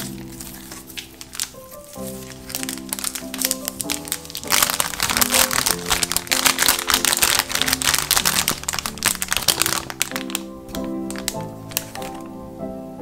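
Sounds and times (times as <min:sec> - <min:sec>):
plastic wrap crinkling: 0:00.0 - 0:12.4
background music: 0:00.0 - 0:13.0.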